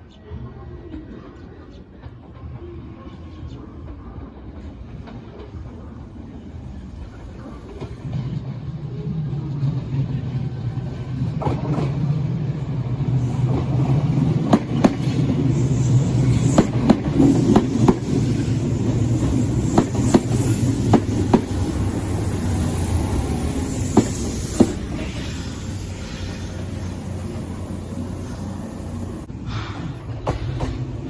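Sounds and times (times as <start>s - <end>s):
train rumbling on track: 0.0s - 31.0s.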